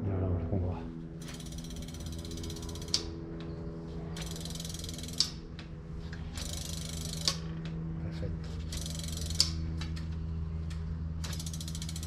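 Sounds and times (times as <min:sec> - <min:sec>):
bicycle freehub ratchet buzzing: 0:01.1 - 0:07.8, 0:08.4 - 0:12.0.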